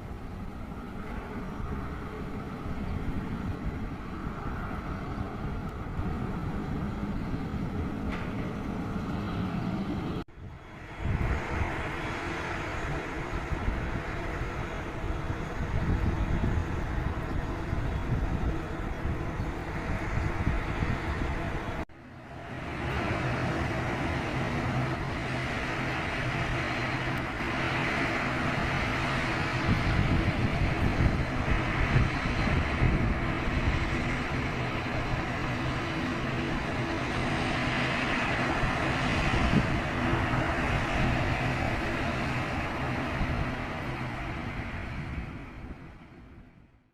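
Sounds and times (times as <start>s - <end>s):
aircraft engines rumbling: 0.0s - 46.9s
outdoor noise: 0.0s - 46.9s.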